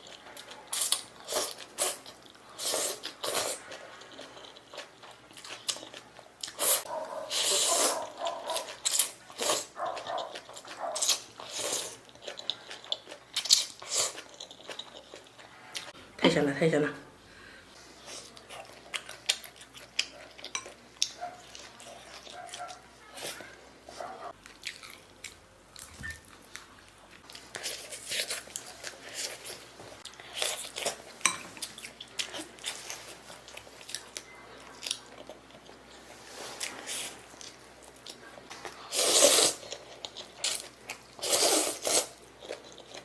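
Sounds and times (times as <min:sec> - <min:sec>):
chewing noodles: 0:00.0 - 0:15.9, 0:18.1 - 0:43.0.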